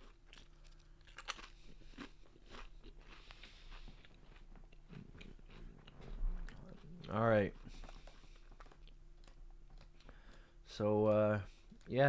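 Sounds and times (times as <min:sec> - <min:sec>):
chewing crunchy potato crisp: 0:00.0 - 0:12.0.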